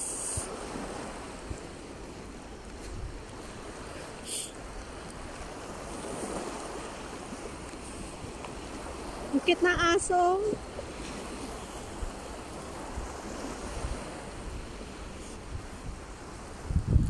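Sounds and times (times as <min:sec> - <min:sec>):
small waves on sandy shore: 0:00.0 - 0:17.0
wind buffeting microphone: 0:00.0 - 0:17.0.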